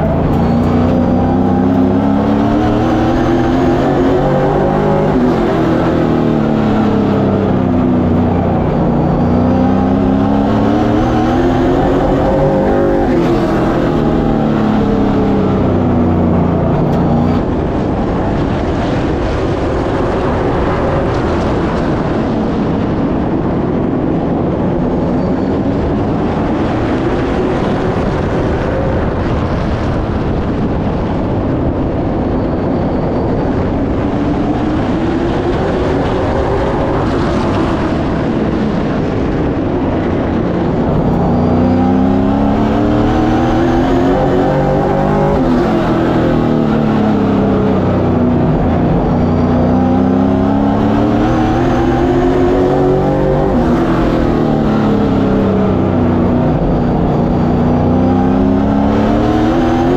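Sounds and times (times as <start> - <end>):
race car engine revving: 0.0 - 32.3, 33.3 - 59.9.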